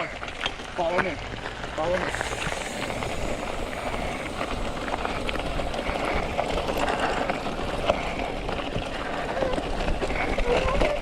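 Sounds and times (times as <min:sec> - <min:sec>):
bicycle tyres rumbling on dirt: 0:00.0 - 0:11.0
faint clicks and rattles: 0:00.0 - 0:11.0
wind on microphone: 0:02.1 - 0:11.0.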